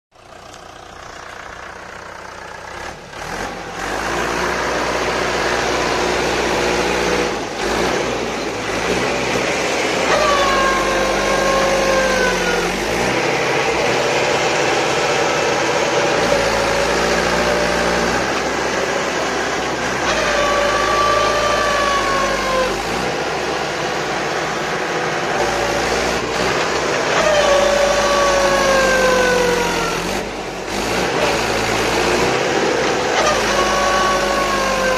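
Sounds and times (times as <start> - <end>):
tractor diesel engine labouring: 0.1 - 34.9.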